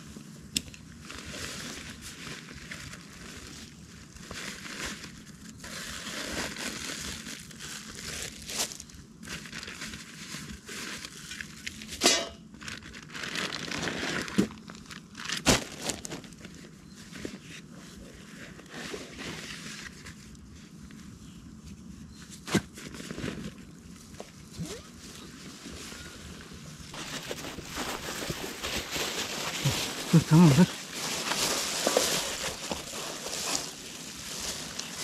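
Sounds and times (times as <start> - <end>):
rustling and crinkling: 0.0 - 35.0.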